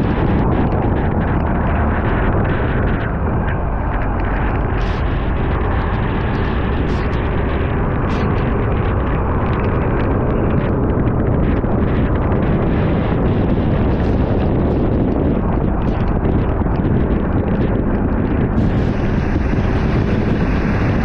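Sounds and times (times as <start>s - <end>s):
diesel engine rumble: 0.0s - 21.0s
wind buffeting microphone: 0.0s - 21.0s.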